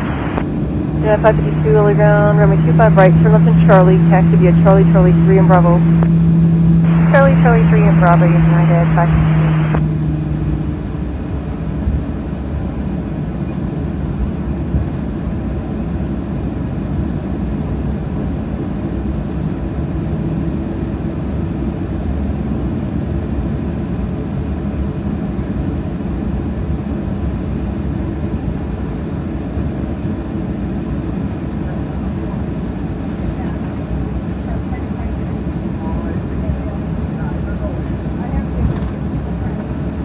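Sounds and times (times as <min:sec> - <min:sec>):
jet engine drone in cabin: 0:00.0 - 0:40.0.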